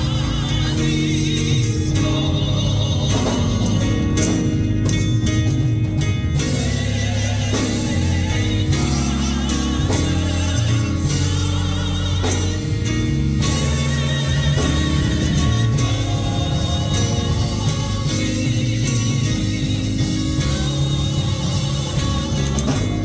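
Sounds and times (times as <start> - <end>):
gospel singing: 0.0 - 23.0
sustained bass line: 0.0 - 23.0.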